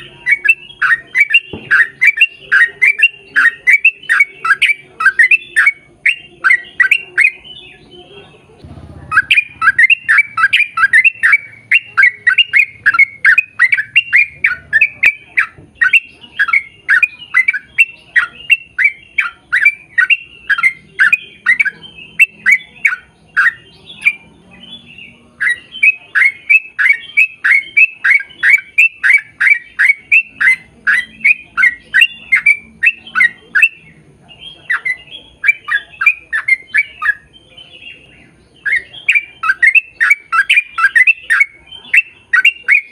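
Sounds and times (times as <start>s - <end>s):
bird squawking: 0.0s - 42.9s.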